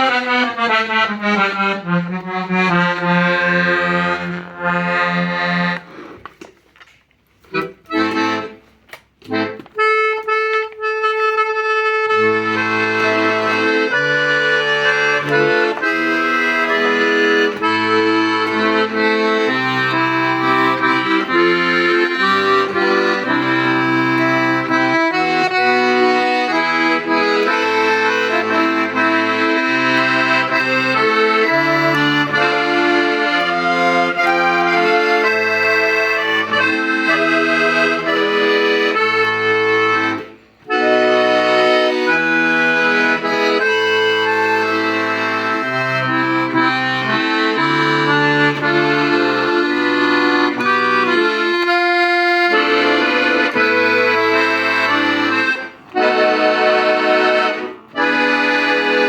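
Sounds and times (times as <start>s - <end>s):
accordion bass accompaniment: 0.0s - 59.0s
piano accordion melody: 0.0s - 59.0s.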